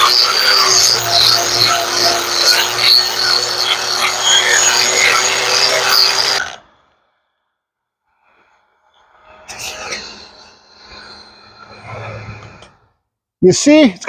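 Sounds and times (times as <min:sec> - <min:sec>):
angle grinder grinding wood: 0:00.0 - 0:06.7, 0:08.3 - 0:12.9.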